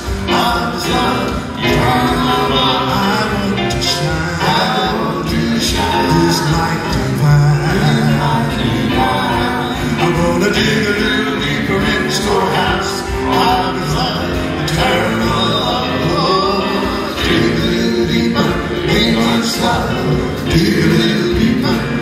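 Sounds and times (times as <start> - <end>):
backing music: 0.0 - 22.0
male quartet singing: 0.0 - 22.0.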